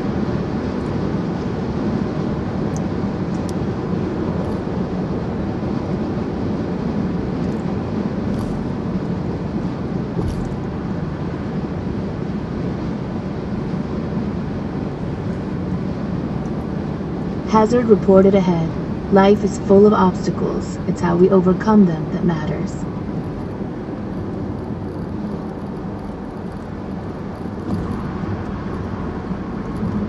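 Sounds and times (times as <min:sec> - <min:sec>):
car road and tyre noise: 0:00.0 - 0:30.0.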